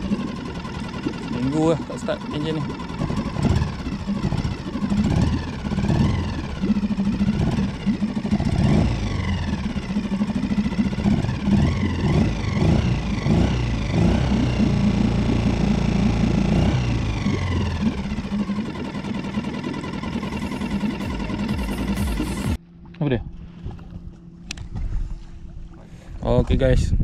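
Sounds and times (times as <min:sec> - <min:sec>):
high motor whine: 0:00.0 - 0:25.8
outboard motor running: 0:00.0 - 0:26.8.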